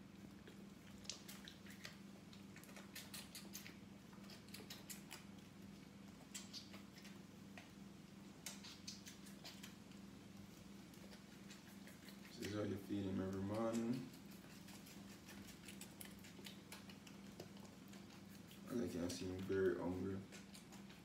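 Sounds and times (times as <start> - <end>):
goat kid sucking at bottle: 0.0 - 21.0.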